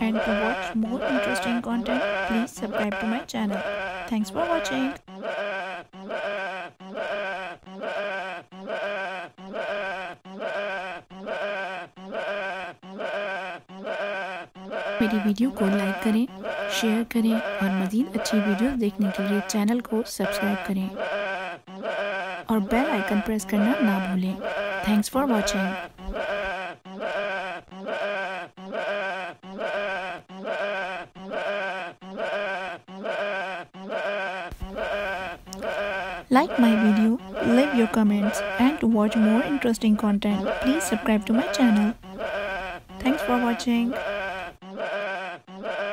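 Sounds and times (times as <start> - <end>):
sheep bleating: 0.0 - 45.9.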